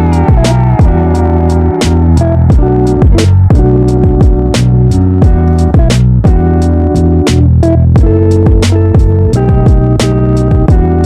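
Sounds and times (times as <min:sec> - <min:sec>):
electronic beat: 0:00.0 - 0:11.0
plucked guitar-like notes: 0:00.0 - 0:11.0
sliding bass: 0:00.0 - 0:11.0.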